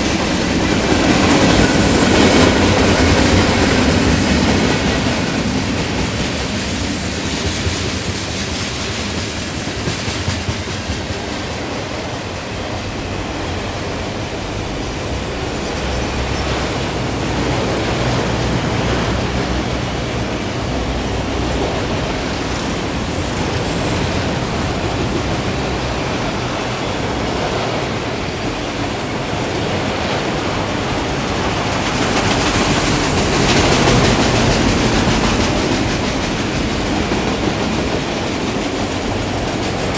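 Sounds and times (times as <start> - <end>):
train wheels rumbling on rails: 0.0 - 39.9
wheels clacking over rail joints: 0.0 - 39.9.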